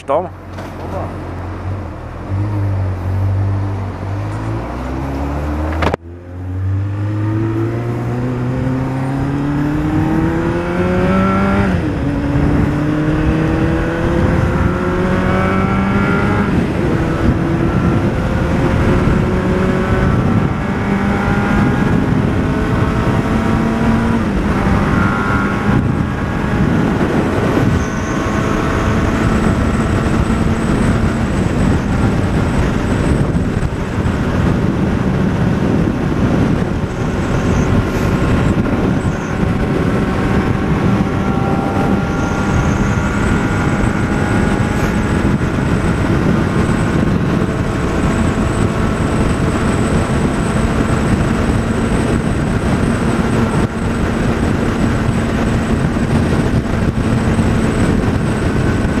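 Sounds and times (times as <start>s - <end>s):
motorcycle engine revving: 0.0s - 59.0s
wind rush: 1.1s - 59.0s.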